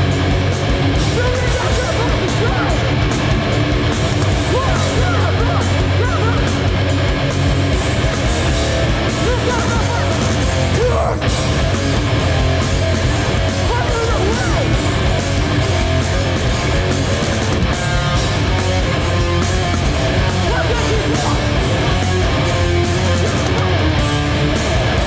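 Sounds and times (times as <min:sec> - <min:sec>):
distorted electric guitars: 0:00.0 - 0:25.0
hardcore punk band playing live: 0:00.0 - 0:25.0.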